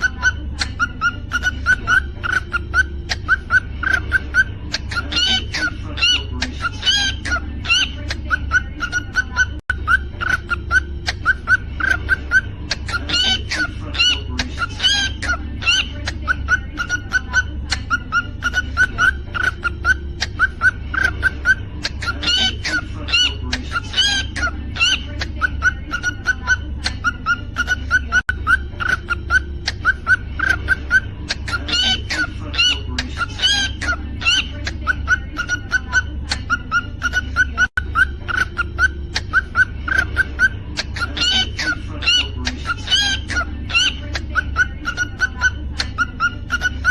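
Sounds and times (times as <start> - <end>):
cockatiel chirping: 0.0 - 46.9
cockatiel warbling calls: 0.0 - 46.9.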